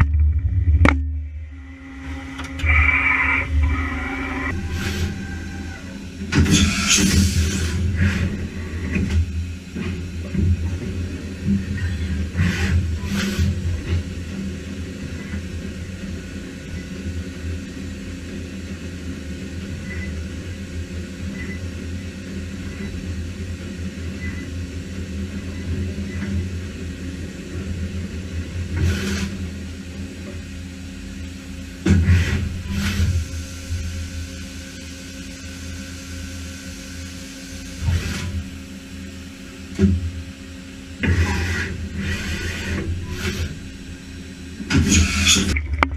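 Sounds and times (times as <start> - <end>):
machine humming and rumbling: 0.0 - 45.9.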